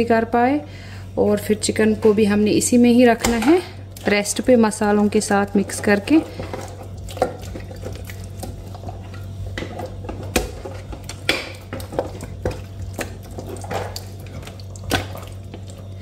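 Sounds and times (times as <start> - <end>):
hand mixing chicken in marinade: 1.8 - 16.0.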